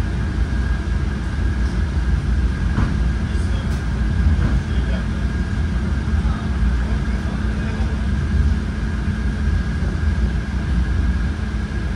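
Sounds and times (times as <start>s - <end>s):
train rumble inside carriage: 0.0s - 11.9s.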